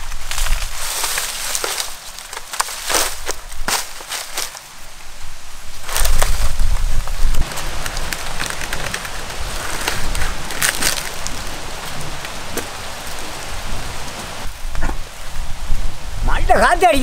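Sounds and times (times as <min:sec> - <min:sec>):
palm-leaf screen rustling and crackling: 0:00.0 - 0:14.6.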